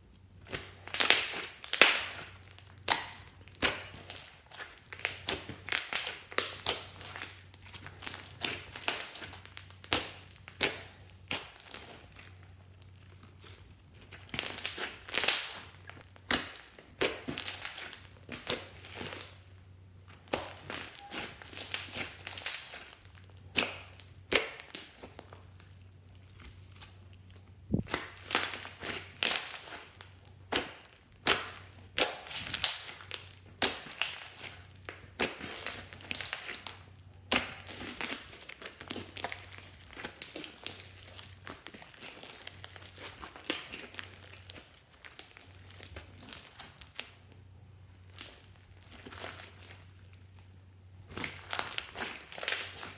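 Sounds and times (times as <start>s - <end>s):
hands squishing slime: 0.2s - 47.3s, 47.9s - 52.9s.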